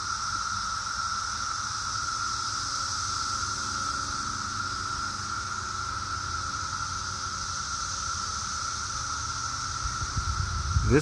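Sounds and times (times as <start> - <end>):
cicadas calling in chorus: 0.0 - 11.0.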